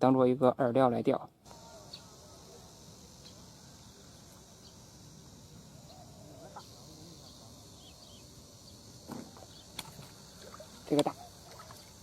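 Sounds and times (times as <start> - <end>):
steady high hiss: 0.0 - 12.0
distant animal calls: 1.5 - 12.0.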